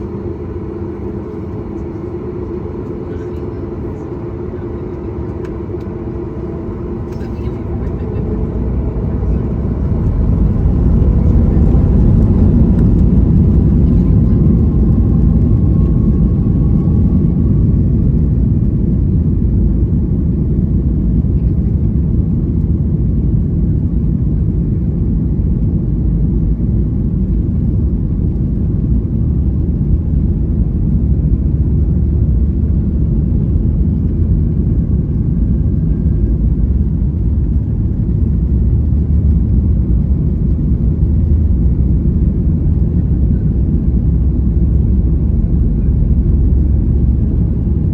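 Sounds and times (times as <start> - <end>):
jet engines roaring: 0.0 - 25.2, 26.7 - 47.9.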